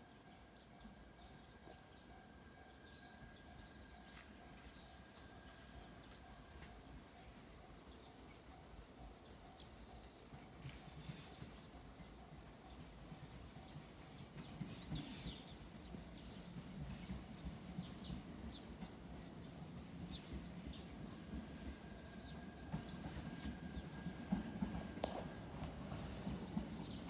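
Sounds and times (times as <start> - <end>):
distant electric train rumble: 0.0 - 27.0.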